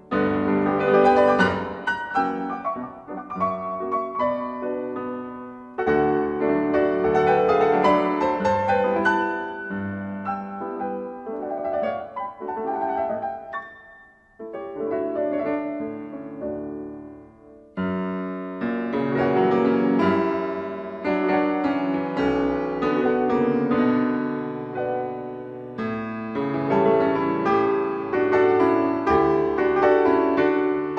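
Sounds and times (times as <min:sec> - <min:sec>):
slow piano music: 0:00.0 - 0:30.9.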